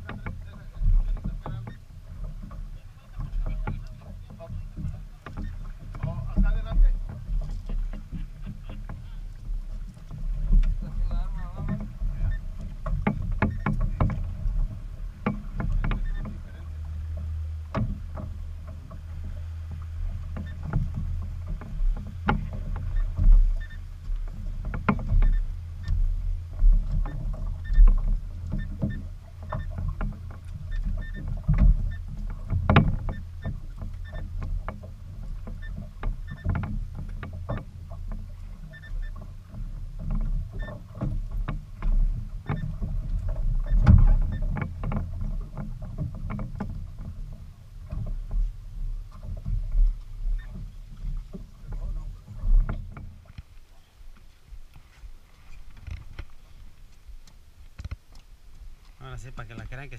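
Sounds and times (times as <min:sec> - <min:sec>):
boat low rumble: 0:00.0 - 0:59.9.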